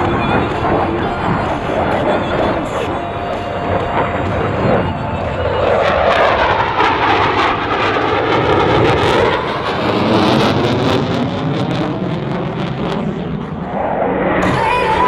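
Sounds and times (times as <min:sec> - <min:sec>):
jet aircraft passing by: 0:00.0 - 0:15.0.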